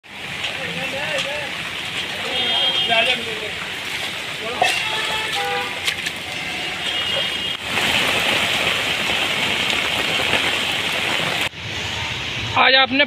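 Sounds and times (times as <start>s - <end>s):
rain falling: 0.0s - 12.4s
street noise: 0.0s - 13.0s.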